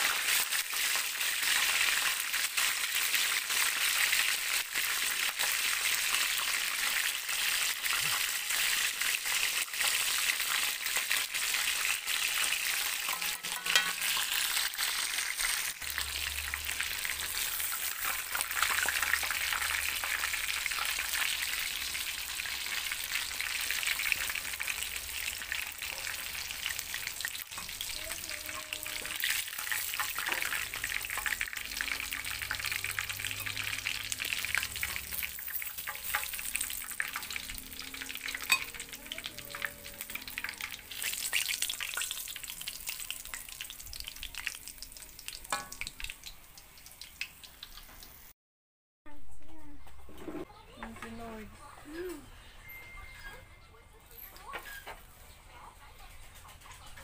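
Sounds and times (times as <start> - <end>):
chicken frying in hot oil: 0.0 - 48.3.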